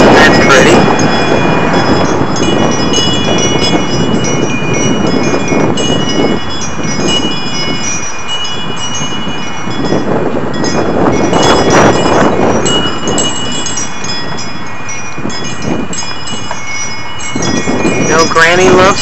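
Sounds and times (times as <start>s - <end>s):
metal wind chime ringing: 0.0s - 19.0s.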